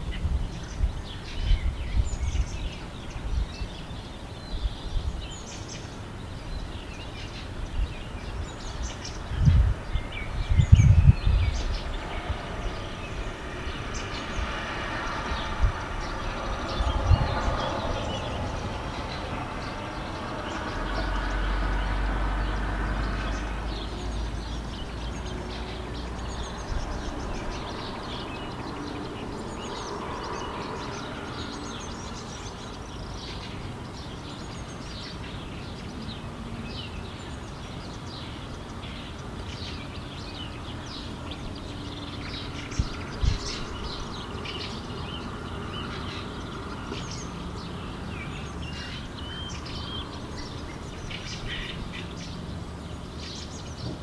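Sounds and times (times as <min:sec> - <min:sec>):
low rumble of passing train: 0:00.0 - 0:54.0
small birds chirping: 0:00.0 - 0:54.0.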